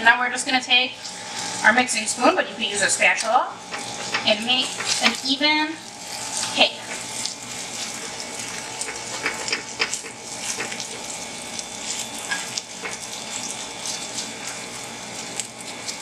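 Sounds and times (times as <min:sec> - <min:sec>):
frying sizzle in skillet: 0:00.0 - 0:16.0
oil crackling: 0:00.9 - 0:16.0.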